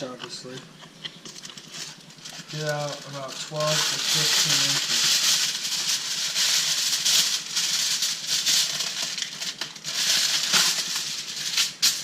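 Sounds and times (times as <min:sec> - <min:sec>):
aluminium foil crinkling: 0:01.2 - 0:12.0.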